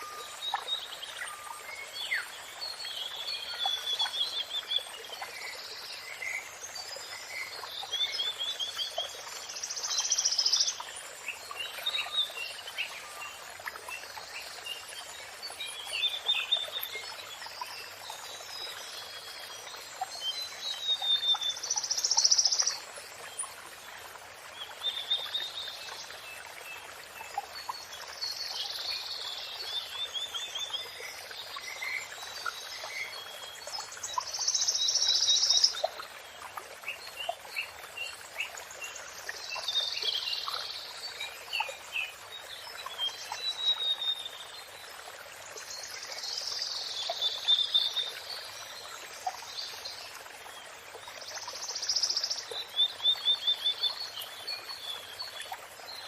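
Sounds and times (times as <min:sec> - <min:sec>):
songbird singing: 0:00.0 - 0:23.6, 0:24.5 - 0:44.7, 0:51.0 - 0:56.0.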